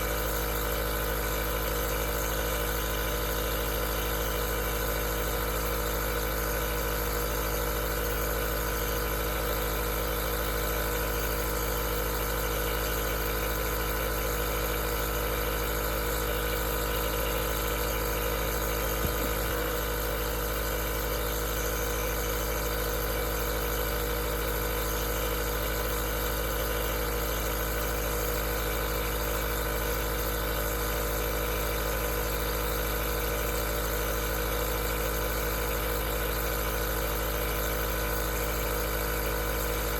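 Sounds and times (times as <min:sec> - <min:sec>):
nebulizer compressor humming: 0:00.0 - 0:39.9.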